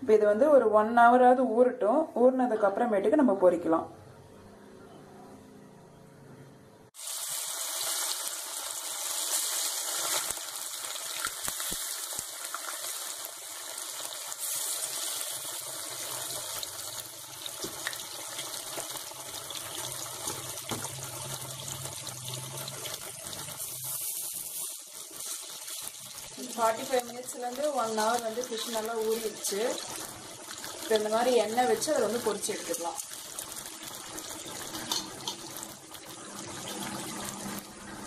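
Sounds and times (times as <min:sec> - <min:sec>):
fish sizzling in hot oil: 0:07.0 - 0:38.0.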